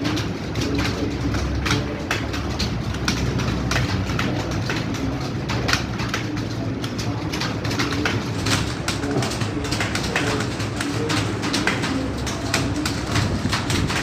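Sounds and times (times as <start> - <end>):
fast typing on keyboard: 0.0 - 14.0.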